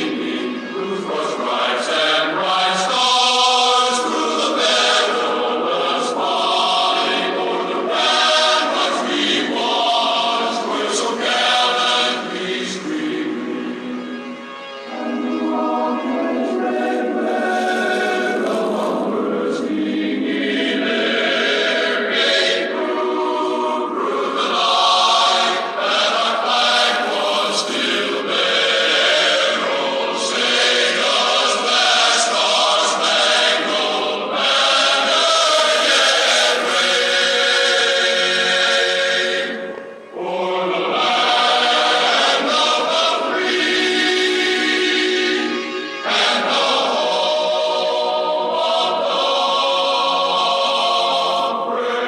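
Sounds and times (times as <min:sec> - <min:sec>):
choir singing an anthem: 0:00.0 - 0:52.0.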